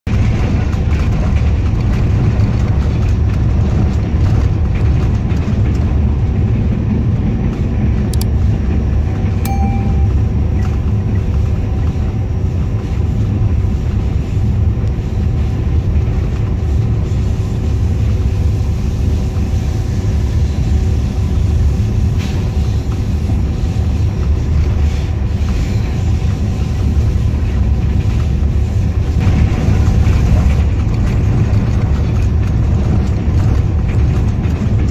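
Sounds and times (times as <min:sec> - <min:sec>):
locomotive engine and wheels rumbling: 0:00.1 - 0:34.9.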